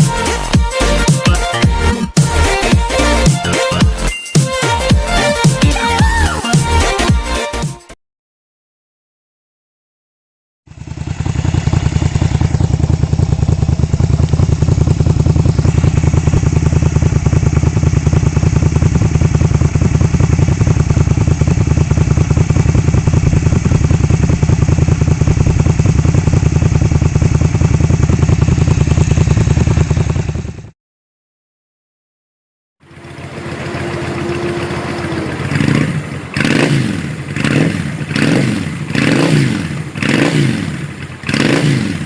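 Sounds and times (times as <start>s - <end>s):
motorcycle engine running: 0.0s - 7.4s, 10.7s - 30.8s, 32.8s - 42.0s.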